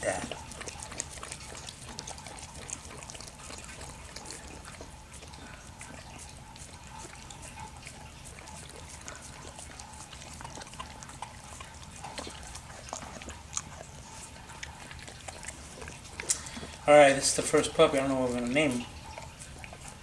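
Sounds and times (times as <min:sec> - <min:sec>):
dog licking wet slurps: 0:00.0 - 0:20.0.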